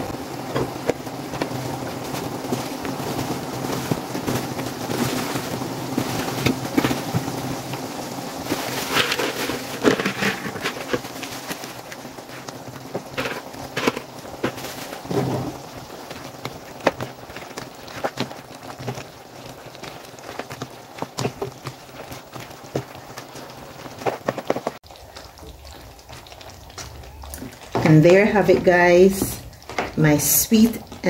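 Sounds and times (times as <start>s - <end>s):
sauce simmering in a frying pan: 0.0s - 31.0s.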